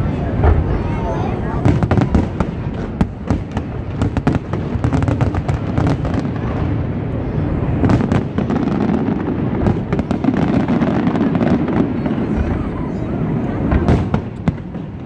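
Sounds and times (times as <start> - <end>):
fireworks booms and crackling: 0.0 - 15.0.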